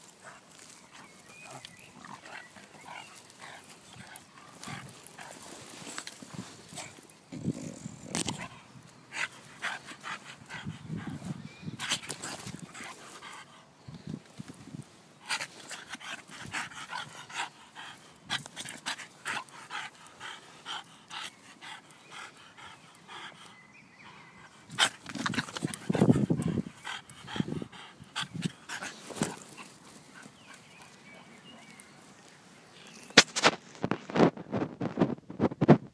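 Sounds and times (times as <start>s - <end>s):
dog panting: 0.2s - 7.0s, 8.3s - 13.7s, 15.2s - 31.8s.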